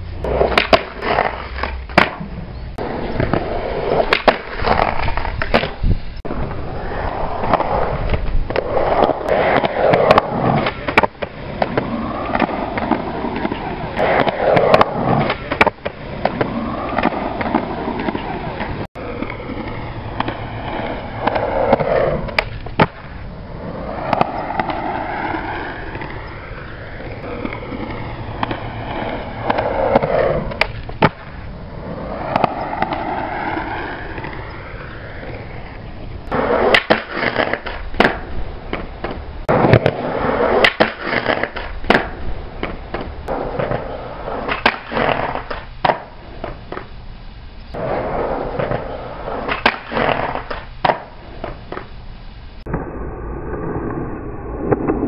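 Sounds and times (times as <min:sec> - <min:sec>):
skateboard wheels rolling on concrete: 0:00.0 - 0:55.0
skateboard clacking on concrete: 0:00.2 - 0:05.8, 0:07.1 - 0:31.5, 0:32.2 - 0:46.9, 0:47.7 - 0:51.9.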